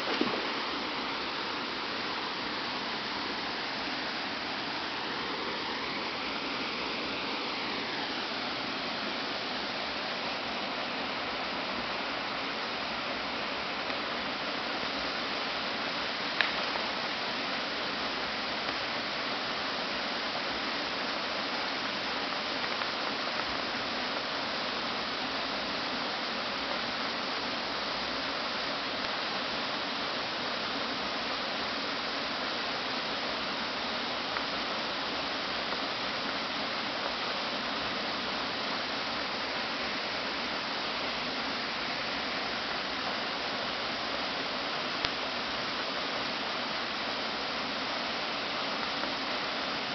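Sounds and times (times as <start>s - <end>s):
rushing stream: 0.0s - 49.9s.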